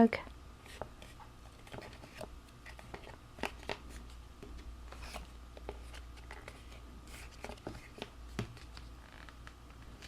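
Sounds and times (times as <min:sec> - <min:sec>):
low steady hum: 0:00.0 - 0:10.0
cardstock crinkling and tapping: 0:01.6 - 0:10.0.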